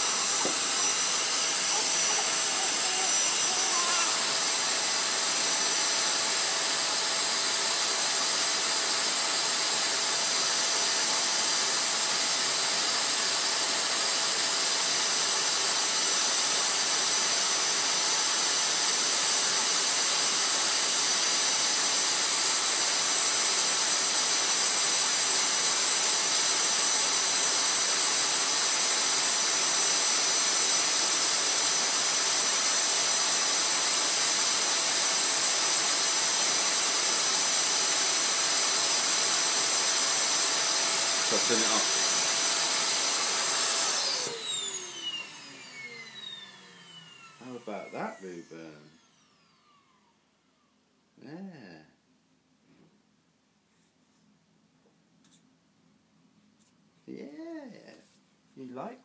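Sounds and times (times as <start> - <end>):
vacuum cleaner motor running: 0.0 - 50.2.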